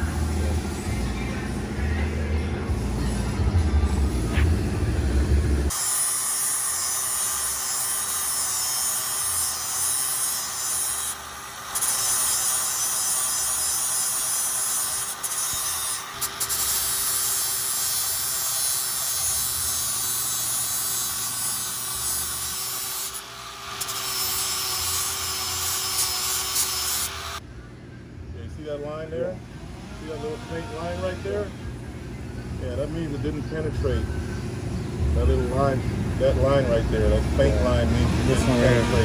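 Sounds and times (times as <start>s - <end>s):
angle grinder grinding steel: 5.5s - 27.4s, 29.4s - 39.0s.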